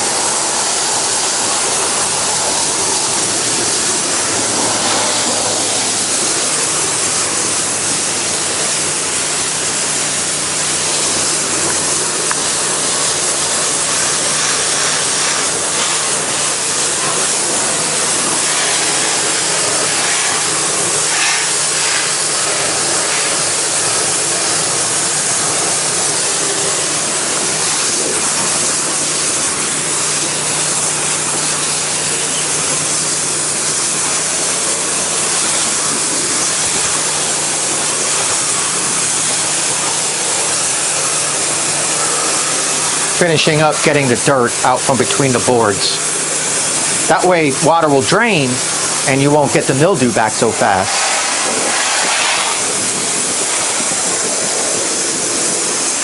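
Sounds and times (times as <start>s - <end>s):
steady low hum: 0.0s - 55.6s
pressure washer spray on wood: 0.0s - 56.0s.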